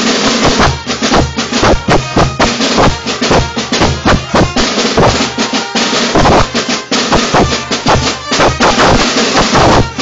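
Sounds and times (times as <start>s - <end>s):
drum band playing: 0.0s - 10.0s.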